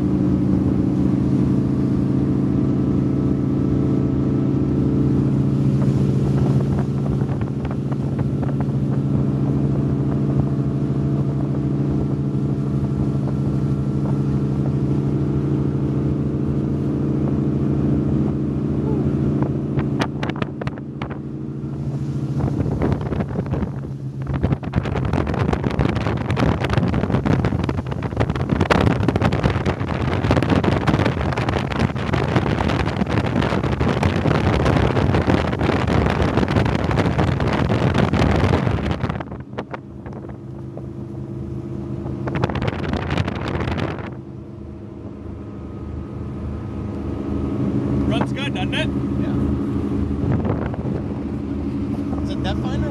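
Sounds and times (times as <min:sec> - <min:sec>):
powerboat engines droning: 0:00.0 - 0:52.9
rush of wind and water: 0:00.0 - 0:52.9.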